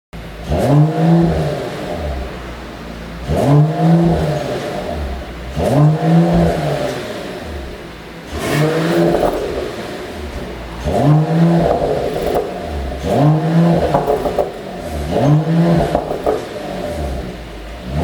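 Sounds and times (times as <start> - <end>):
car engine revving: 0.2 - 18.0.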